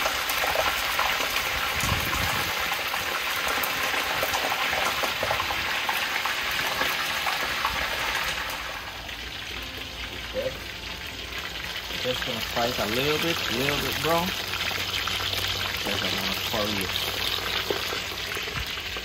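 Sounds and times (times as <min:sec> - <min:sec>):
fish frying in hot oil: 0:00.0 - 0:19.0.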